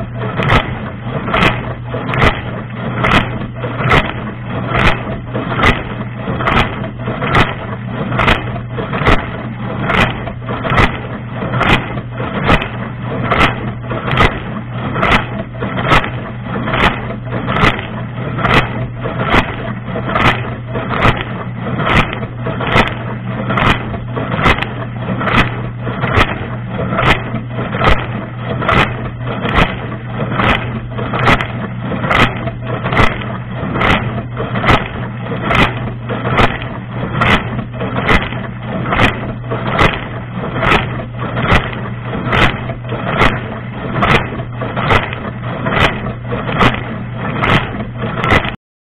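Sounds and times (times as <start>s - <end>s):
dishwasher pump hum: 0.0s - 48.6s.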